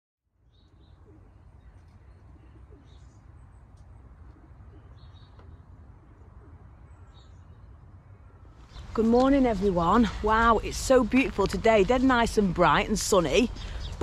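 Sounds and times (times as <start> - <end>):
birds chirping: 0.4 - 14.0.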